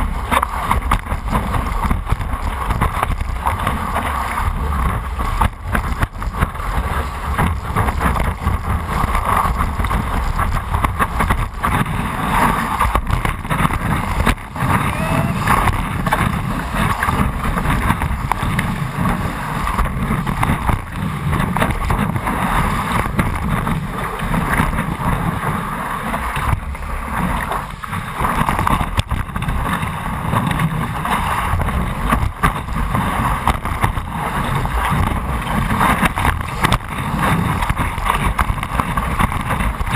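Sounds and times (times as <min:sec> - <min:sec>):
wave water rushing: 0:00.0 - 0:39.9
wind buffeting microphone: 0:00.0 - 0:39.9.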